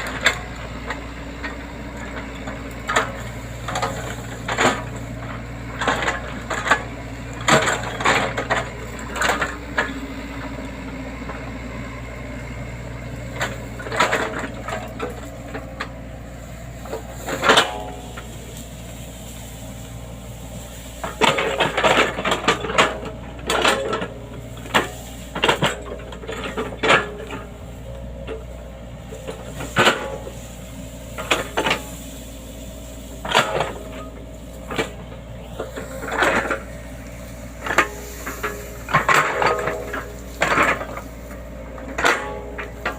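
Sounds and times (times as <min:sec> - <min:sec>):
excavator engine running: 0:00.0 - 0:42.9.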